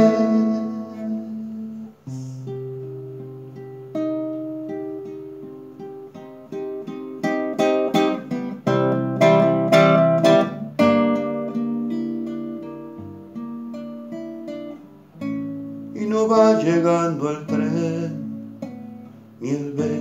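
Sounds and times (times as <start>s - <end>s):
classical guitar playing: 0.0s - 20.0s.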